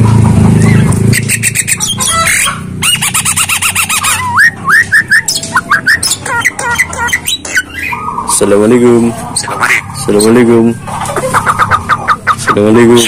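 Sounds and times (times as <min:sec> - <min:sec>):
myna bird calling: 0:00.4 - 0:13.0.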